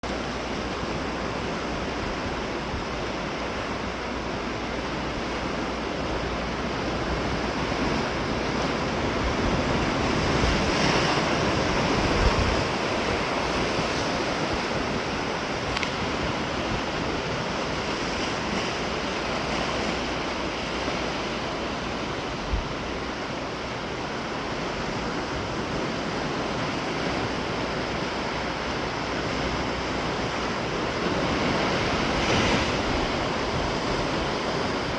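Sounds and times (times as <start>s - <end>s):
sea waves breaking on shore: 0.0s - 34.9s
wind rumble on microphone: 0.0s - 34.9s.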